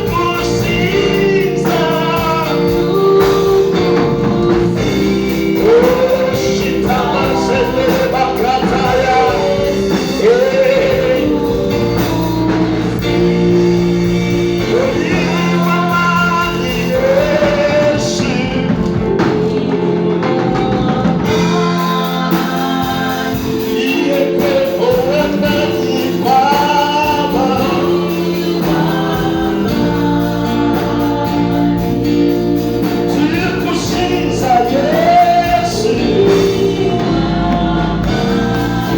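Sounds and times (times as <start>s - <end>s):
band playing steady chords: 0.0s - 38.9s
gospel singing: 0.0s - 38.9s.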